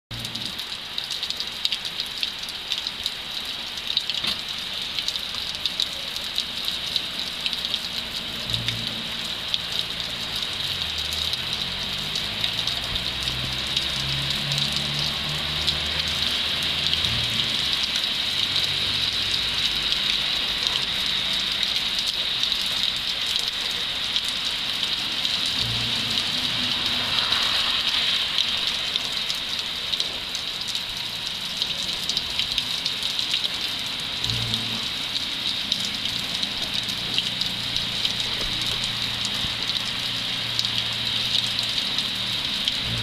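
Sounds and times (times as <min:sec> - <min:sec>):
rain falling: 0:00.1 - 0:43.0
raindrops clicking on hard surfaces: 0:00.1 - 0:43.0.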